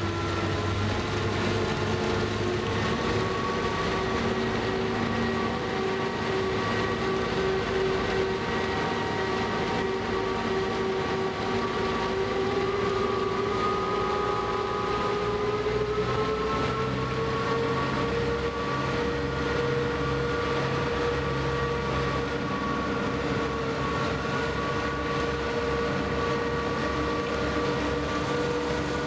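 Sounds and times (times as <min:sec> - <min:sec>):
boat engines droning: 0:00.0 - 0:29.0.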